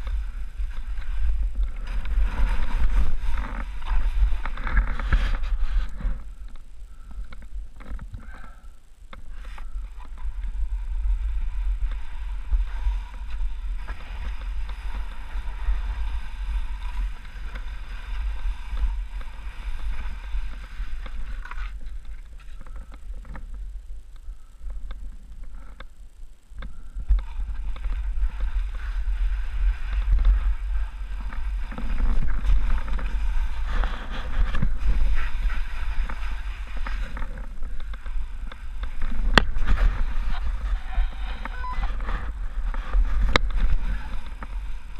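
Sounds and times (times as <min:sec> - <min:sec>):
skis scraping over snow: 0:00.0 - 0:06.4, 0:09.3 - 0:23.6, 0:27.1 - 0:44.9.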